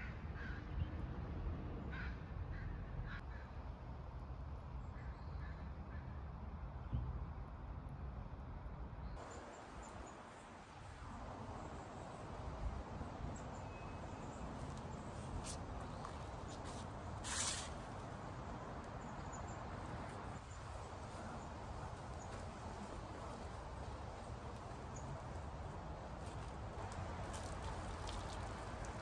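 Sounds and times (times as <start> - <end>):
outdoor yard ambience: 0.0 - 29.0.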